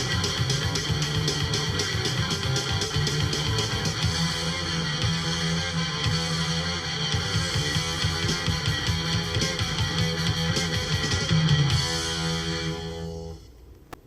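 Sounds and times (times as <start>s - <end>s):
bass guitar: 0.0s - 13.5s
electric guitars: 0.0s - 13.5s
rock drumming: 0.0s - 13.5s.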